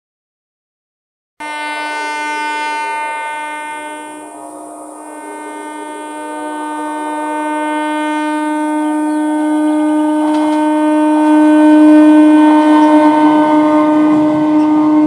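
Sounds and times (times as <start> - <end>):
train horn blast: 1.4 - 15.0
train running noise: 1.4 - 15.0.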